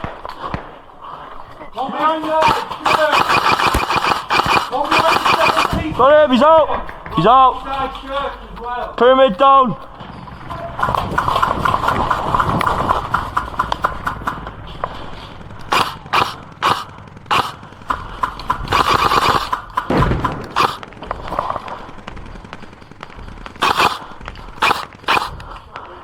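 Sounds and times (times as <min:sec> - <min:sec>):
airsoft guns firing: 0:00.0 - 0:26.0.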